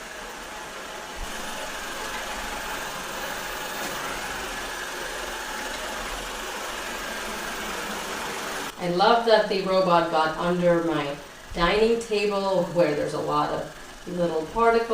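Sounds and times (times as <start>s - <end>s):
robot vacuum running: 0.0s - 8.8s, 9.4s - 14.9s.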